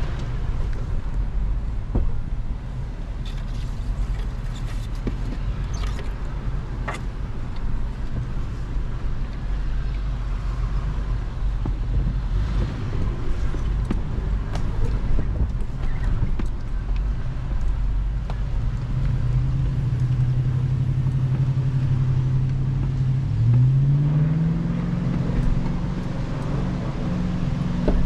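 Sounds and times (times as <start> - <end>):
car engine pulling at low revs: 0.0 - 28.0.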